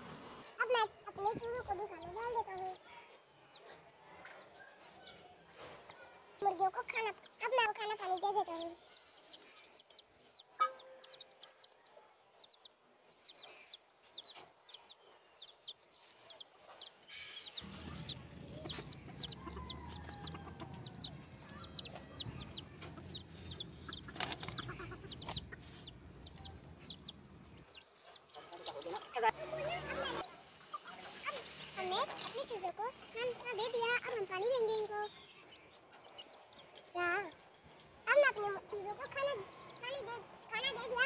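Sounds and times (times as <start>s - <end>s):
chickens clucking: 0.0s - 41.0s
chicks peeping: 0.0s - 41.0s.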